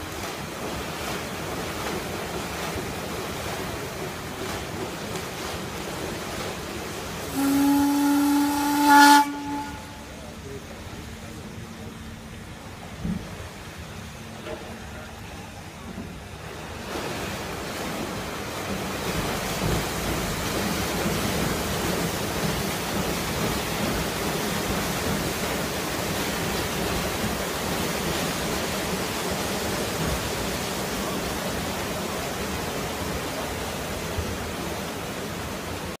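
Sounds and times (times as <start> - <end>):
paddle wheels churning water: 0.0 - 36.0.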